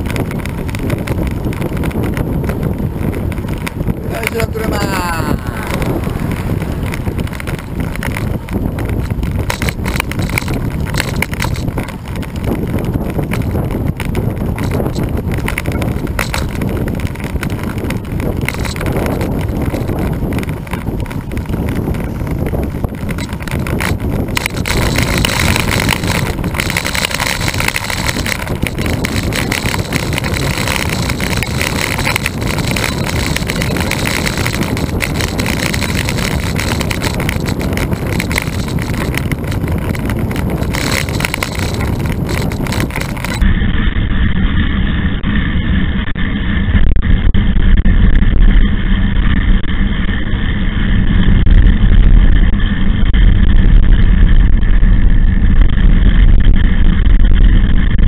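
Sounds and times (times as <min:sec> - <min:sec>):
tyre noise on asphalt: 0:00.0 - 0:58.0
wind on microphone: 0:00.0 - 0:58.0.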